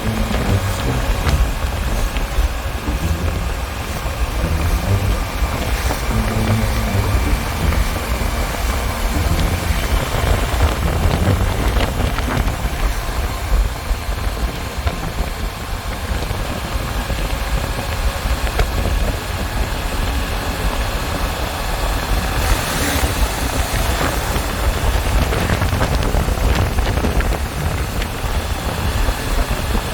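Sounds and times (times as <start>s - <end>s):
vehicle engine rumbling: 0.0s - 29.9s
wind noise hiss: 0.0s - 29.9s.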